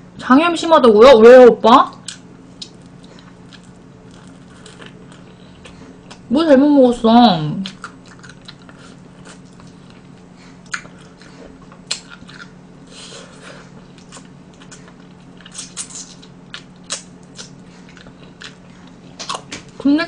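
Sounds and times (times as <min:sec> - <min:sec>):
faint steady hum: 0:00.0 - 0:20.0
chewing and biting food: 0:02.0 - 0:06.3, 0:07.6 - 0:19.8.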